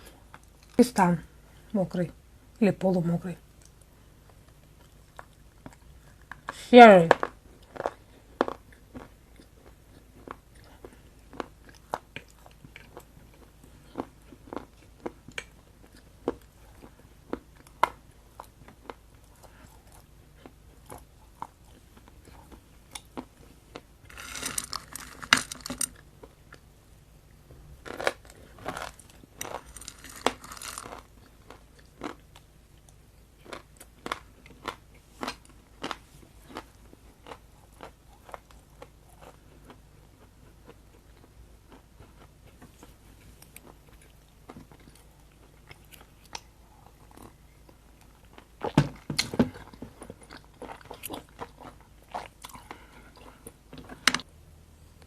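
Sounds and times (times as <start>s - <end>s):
person chewing crunchy food: 3.6s - 26.8s, 27.8s - 54.3s.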